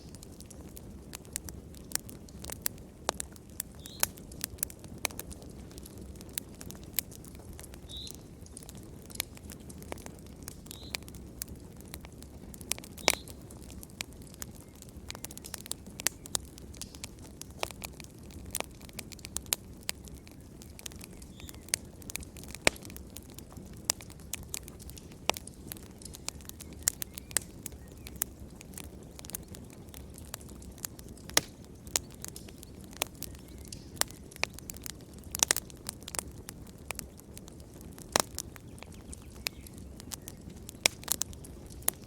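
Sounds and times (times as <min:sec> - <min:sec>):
low rush of flame: 0:00.0 - 0:42.0
wood fire crackling: 0:00.0 - 0:42.0.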